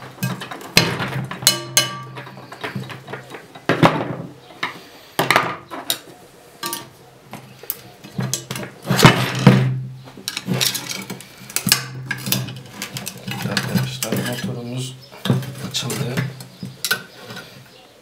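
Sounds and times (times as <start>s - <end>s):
metal clanks and knocks: 0.0s - 7.0s, 8.0s - 17.5s.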